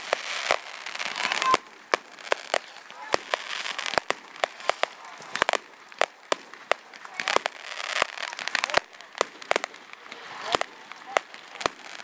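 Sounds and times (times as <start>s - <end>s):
firework bangs: 0.0s - 12.0s
firework crackling: 0.0s - 12.0s.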